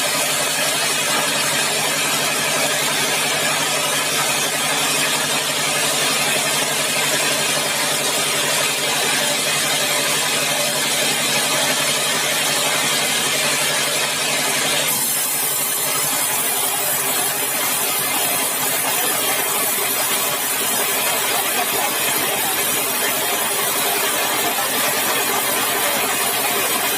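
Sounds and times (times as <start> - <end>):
sawmill engine hum: 0.0 - 26.9.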